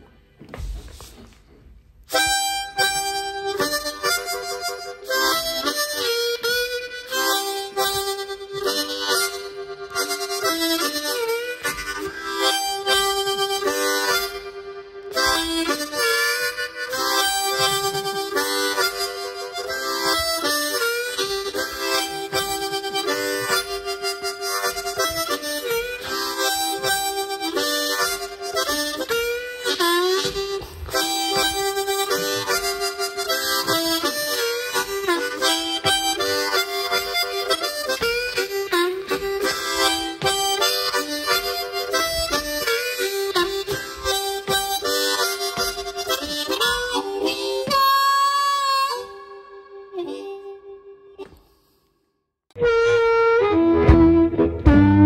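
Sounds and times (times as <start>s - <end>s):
harmonica blues riff: 2.0s - 51.6s, 52.5s - 55.0s.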